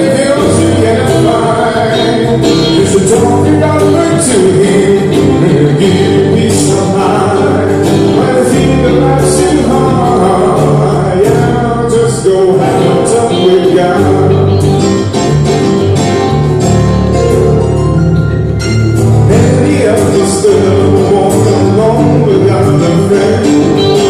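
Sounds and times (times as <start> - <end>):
person singing: 0.0 - 15.1, 19.2 - 24.0
acoustic guitar strumming: 0.0 - 24.0.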